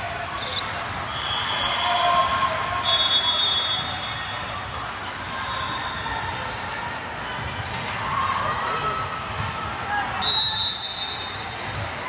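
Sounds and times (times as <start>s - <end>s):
court noise: 0.0s - 12.0s
indistinct crowd chatter: 0.0s - 12.0s.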